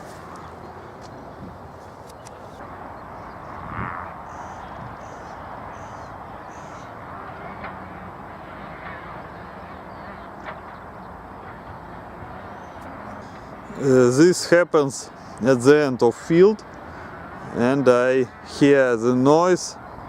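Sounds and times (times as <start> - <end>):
distant motorcycle engines: 0.0 - 20.0
faint low engine hum: 0.0 - 20.0
outdoor background noise: 0.0 - 20.0.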